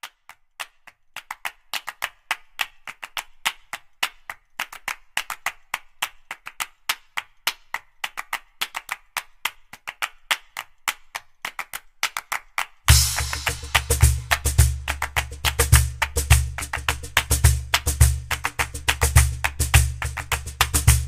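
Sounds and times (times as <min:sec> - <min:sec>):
handclap percussion music: 0:00.0 - 0:21.0.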